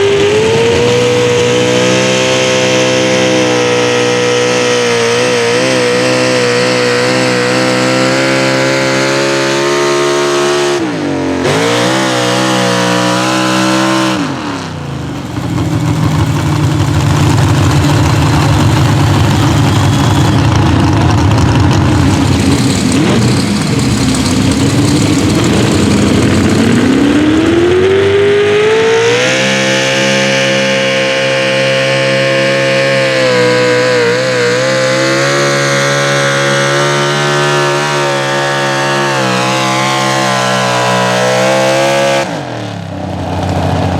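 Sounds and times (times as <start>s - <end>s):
truck engine at high revs: 0.0s - 43.9s.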